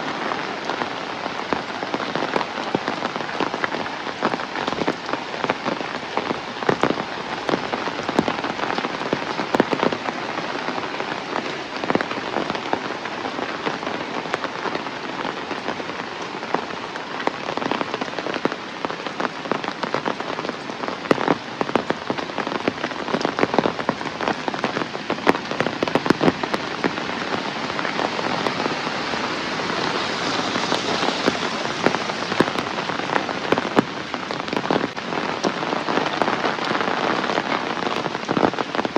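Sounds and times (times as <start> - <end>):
heavy rain hiss: 0.0 - 38.9
raindrops hitting surfaces: 0.0 - 38.9.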